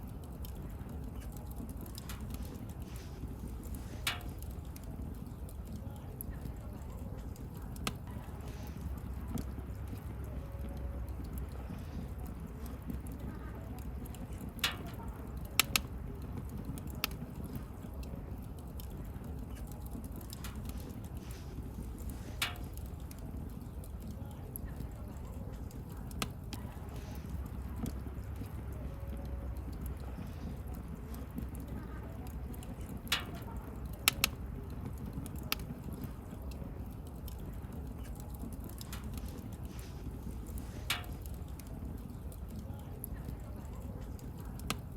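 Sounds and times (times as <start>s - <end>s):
bonfire crackling and popping: 0.0s - 44.9s
low rumble of flames: 0.0s - 44.9s.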